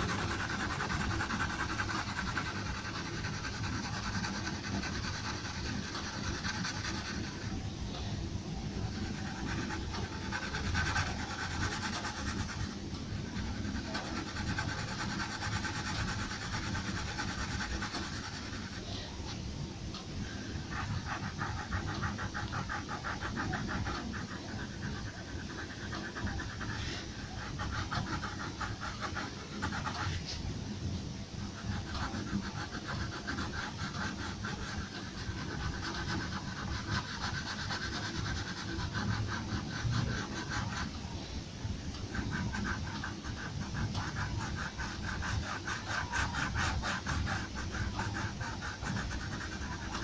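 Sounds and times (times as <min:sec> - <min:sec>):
pencil scratching on paper: 0:00.0 - 0:50.0.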